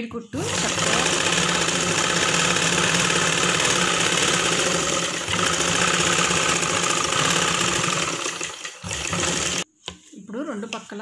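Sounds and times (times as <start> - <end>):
sewing machine running: 0.4 - 9.6.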